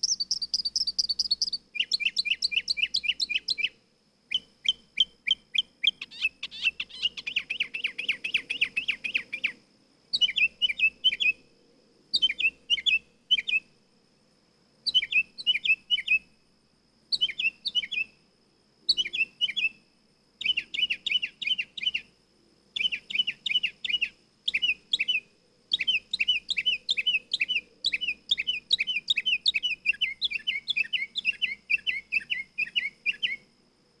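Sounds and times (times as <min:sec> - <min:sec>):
nightingale singing: 0:00.0 - 0:13.8, 0:14.7 - 0:16.4, 0:17.1 - 0:34.0.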